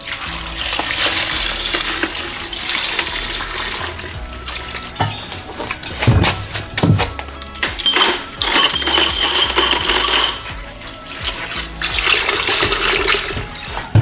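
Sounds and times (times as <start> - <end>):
fuel pouring and splashing into bucket: 0.0 - 14.0.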